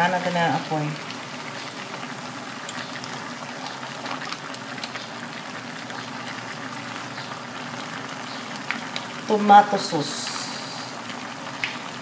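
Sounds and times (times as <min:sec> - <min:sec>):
stew bubbling and hissing: 0:00.0 - 0:12.0
small crackles: 0:00.8 - 0:09.4, 0:10.4 - 0:12.0.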